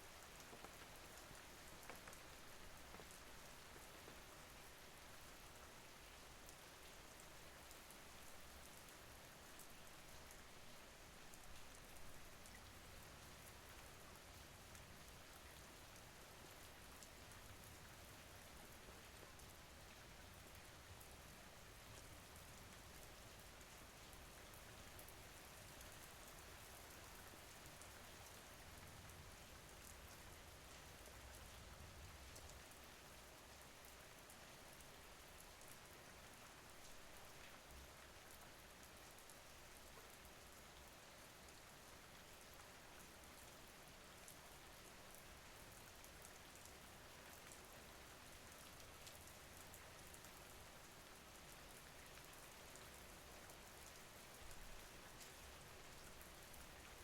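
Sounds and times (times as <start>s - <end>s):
faint rain falling: 0.0s - 57.0s.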